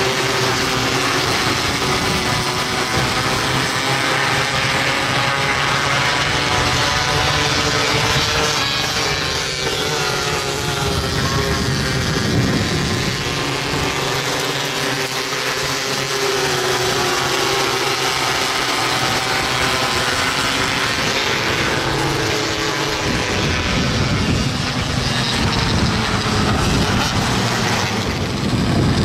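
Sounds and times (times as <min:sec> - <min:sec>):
sprint car engines racing past: 0:00.0 - 0:29.0.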